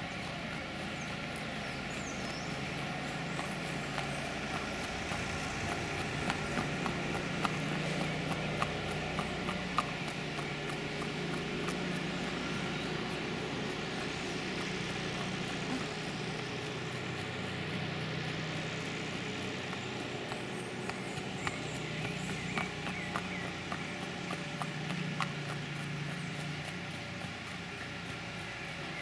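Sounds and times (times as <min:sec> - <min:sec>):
horse hooves clopping on pavement: 0:00.0 - 0:29.0
low background hum: 0:00.0 - 0:29.0.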